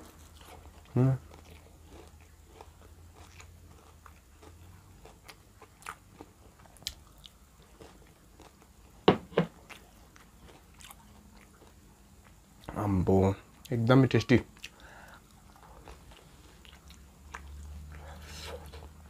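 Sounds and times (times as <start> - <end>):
crunching and chewing food: 0.0 - 19.0.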